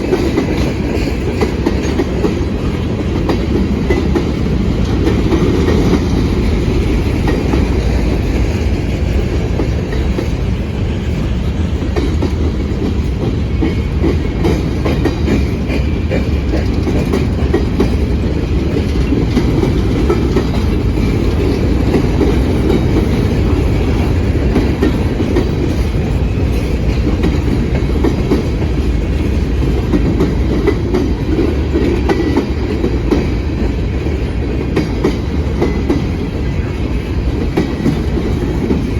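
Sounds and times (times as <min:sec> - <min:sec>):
freight train rumbling past: 0:00.0 - 0:38.9
wheels clacking over rails: 0:00.0 - 0:38.9.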